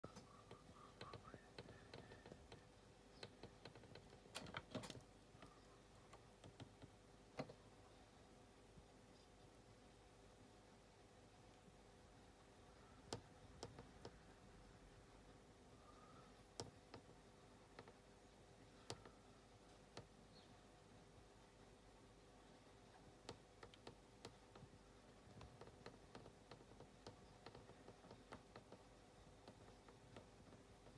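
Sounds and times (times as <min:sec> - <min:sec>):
faint irregular sharp clicks: 0:00.0 - 0:30.9.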